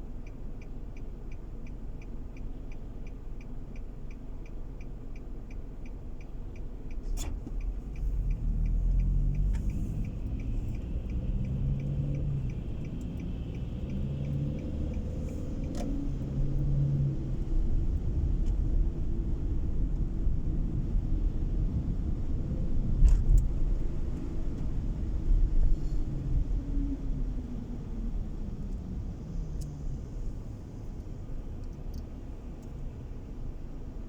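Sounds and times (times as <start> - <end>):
car road and engine rumble: 0.0 - 34.0
turn signal ticking: 0.0 - 34.0.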